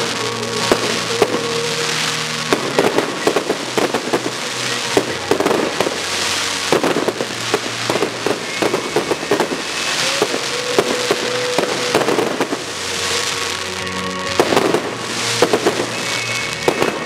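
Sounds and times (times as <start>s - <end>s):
constant hiss: 0.0s - 17.0s
fireworks bursting with sharp bangs: 0.0s - 17.0s.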